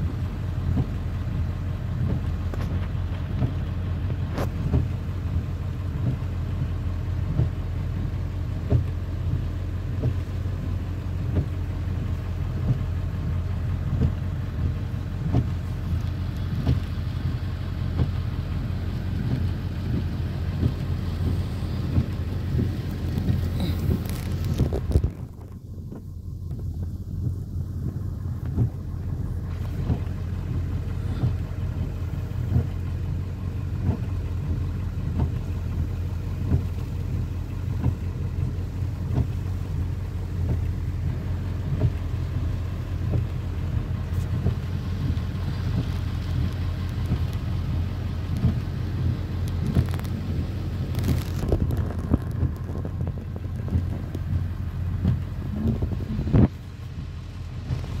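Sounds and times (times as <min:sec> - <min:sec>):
engine rumble inside vehicle: 0:00.0 - 0:58.0
rain tapping on roof: 0:00.0 - 0:58.0.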